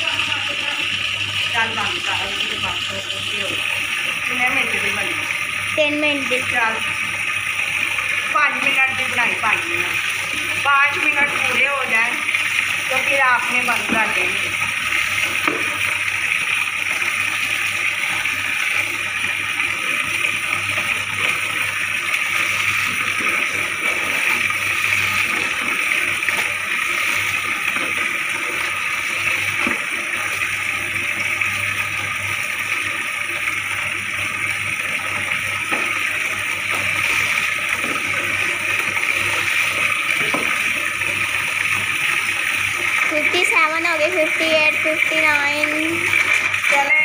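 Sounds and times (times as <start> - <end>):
splashing of clothes rinsed: 0.0 - 46.9
tap water running into tub: 0.0 - 47.0.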